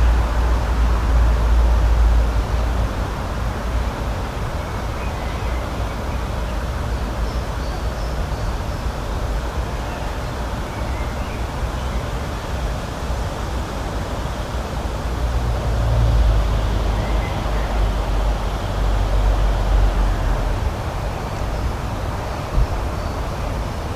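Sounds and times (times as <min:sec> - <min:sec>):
rushing outdoor noise with rumble: 0:00.0 - 0:23.9.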